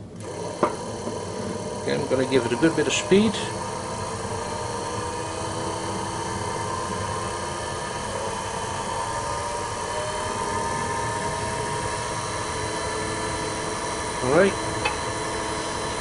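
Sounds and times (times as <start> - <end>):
wood lathe spinning: 0.0 - 16.0.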